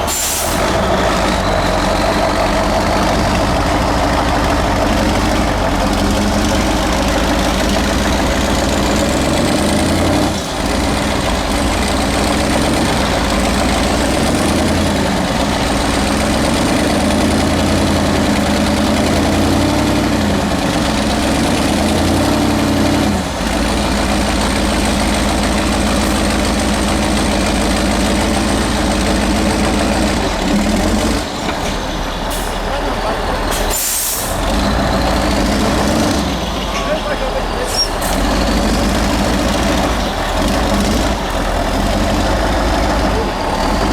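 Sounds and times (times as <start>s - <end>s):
truck diesel engine revving: 0.0s - 43.9s.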